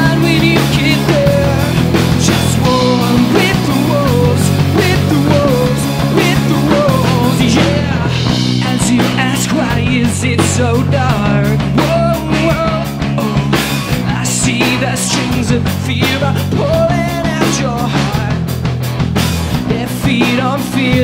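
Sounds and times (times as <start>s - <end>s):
man singing lead: 0.0s - 18.6s, 19.5s - 21.0s
bass guitar: 0.0s - 21.0s
drum kit: 0.0s - 21.0s
electric guitars: 0.0s - 21.0s.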